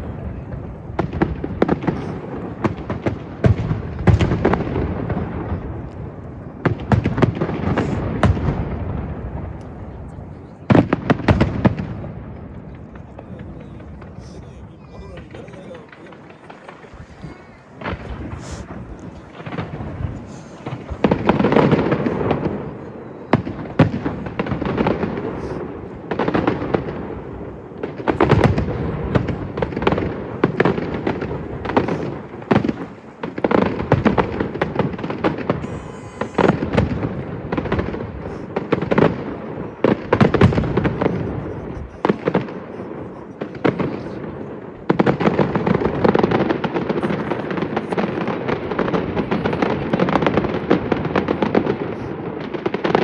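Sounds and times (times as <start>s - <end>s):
fireworks bangs and booms: 0.0s - 53.0s
fireworks crackle: 0.0s - 53.0s.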